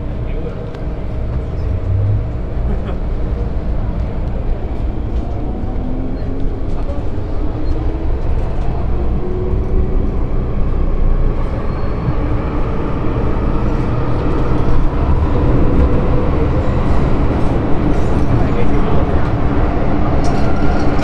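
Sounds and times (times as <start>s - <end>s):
electric train rumbling on track: 0.0s - 21.0s.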